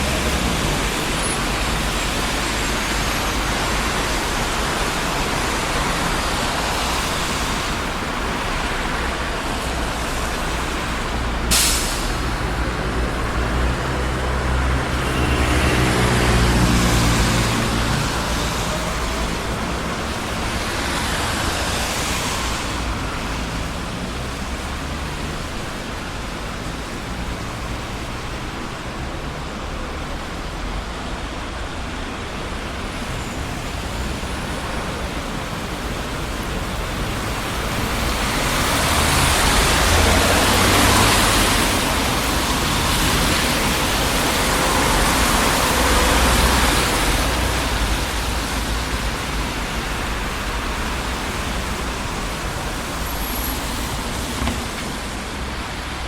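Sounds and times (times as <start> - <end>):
road traffic: 0.0 - 56.0
vehicles passing close: 0.0 - 56.0.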